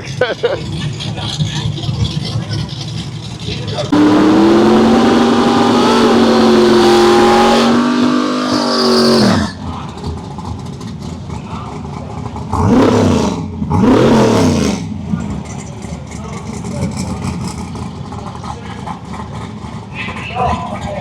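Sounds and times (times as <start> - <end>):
car engine revving: 0.0 - 21.0
engine throttle blips: 0.0 - 21.0.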